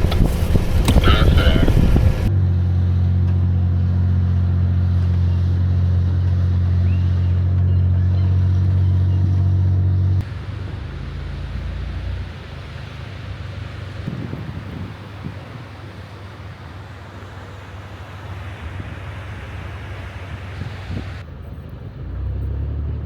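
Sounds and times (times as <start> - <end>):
suv engine droning: 0.0 - 23.0.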